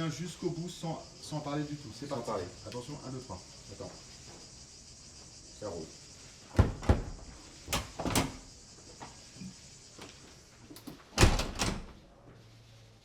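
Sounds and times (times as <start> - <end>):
insect hiss: 0.0 - 13.0.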